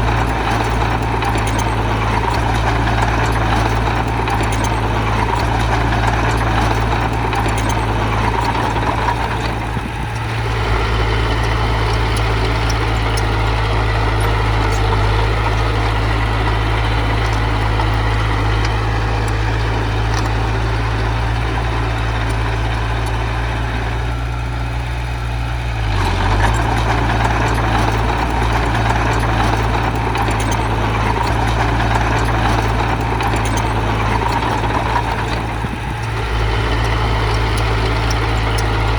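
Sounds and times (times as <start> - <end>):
earth-moving machine diesel engine: 0.0 - 38.9.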